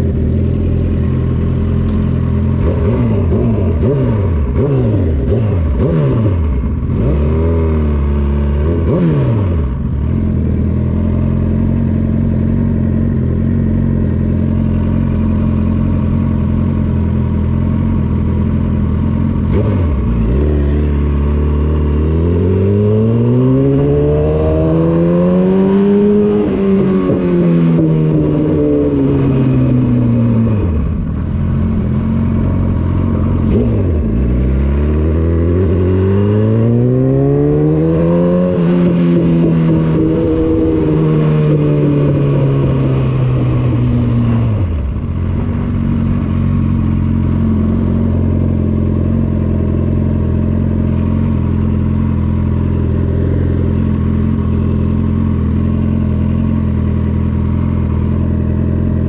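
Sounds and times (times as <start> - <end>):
motorcycle engine revving and idling: 0.0 - 59.0.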